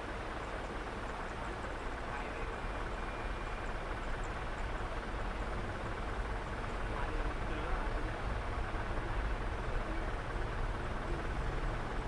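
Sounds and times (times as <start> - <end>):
constant low rumble: 0.0 - 12.0.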